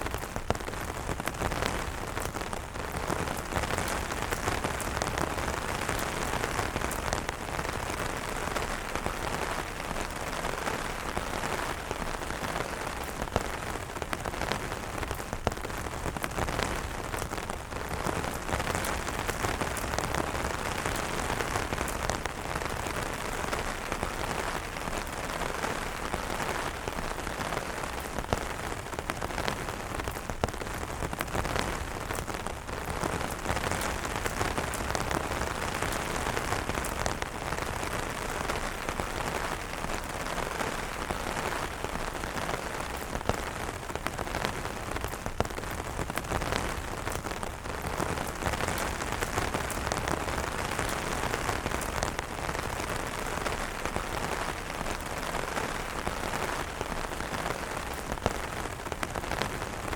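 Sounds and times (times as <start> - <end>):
rain on umbrellas: 0.0 - 59.9.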